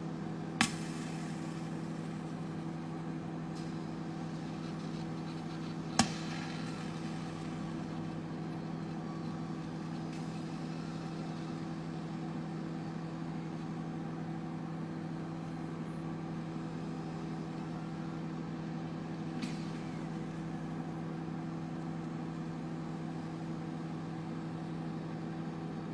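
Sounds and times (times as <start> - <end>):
microwave oven humming: 0.0 - 25.9.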